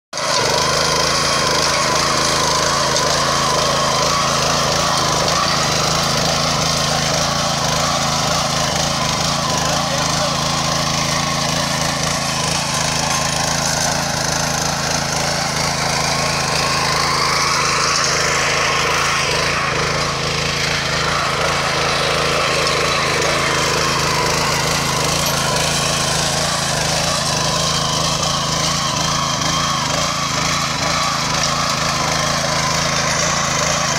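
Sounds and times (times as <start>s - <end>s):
power tiller engine running: 0.1s - 33.9s
tines digging through soil: 0.1s - 33.9s.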